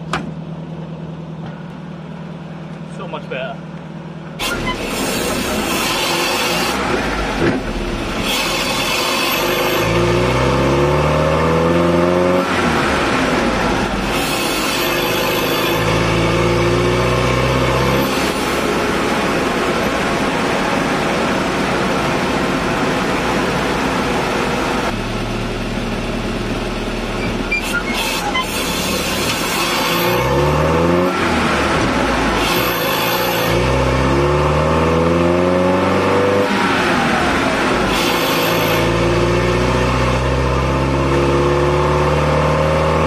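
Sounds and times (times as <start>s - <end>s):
road noise: 0.0s - 43.0s
van engine revving: 3.8s - 43.0s.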